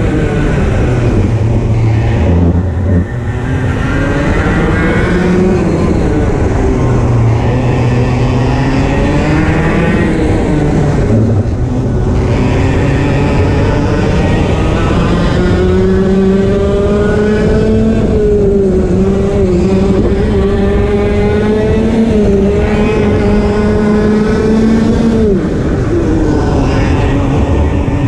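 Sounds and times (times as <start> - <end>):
kart engine at high revs: 0.0 - 28.0.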